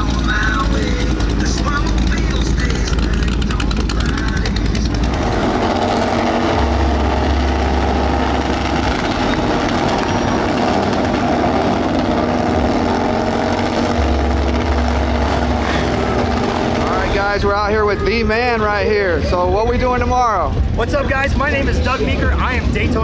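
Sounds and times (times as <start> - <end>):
motorcycle engines running: 0.0 - 23.0.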